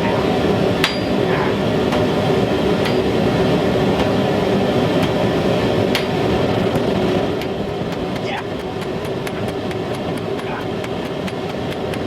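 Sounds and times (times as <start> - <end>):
forge blower roaring: 0.0 - 12.0.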